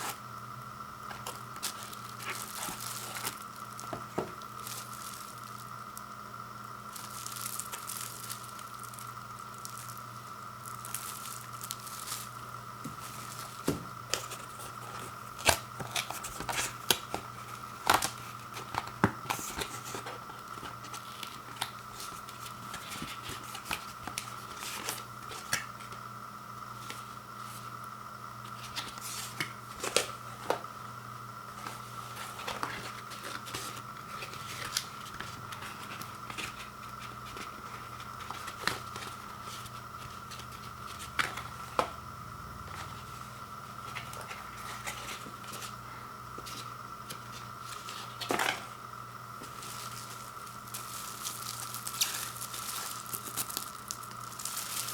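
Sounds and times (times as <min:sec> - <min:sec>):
steady electrical hum: 0:00.0 - 0:54.9
packaging rustling and crinkling: 0:01.0 - 0:26.0, 0:28.4 - 0:30.7, 0:31.5 - 0:42.0, 0:42.6 - 0:45.8, 0:46.4 - 0:48.8, 0:49.4 - 0:54.9.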